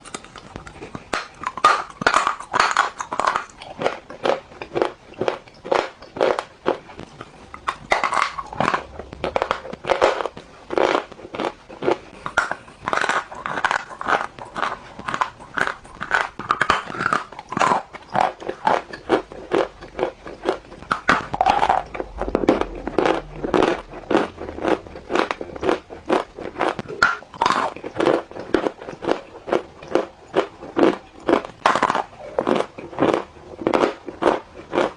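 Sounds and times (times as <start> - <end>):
crunchy food being chewed: 0.0 - 34.9.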